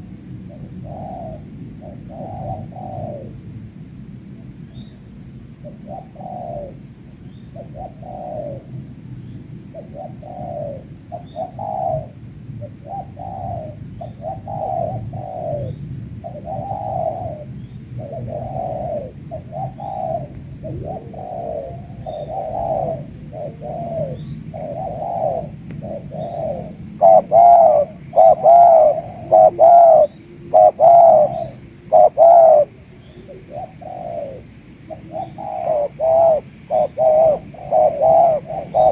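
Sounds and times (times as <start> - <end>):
doves cooing: 0.0 - 3.6, 5.5 - 8.9, 9.6 - 38.9.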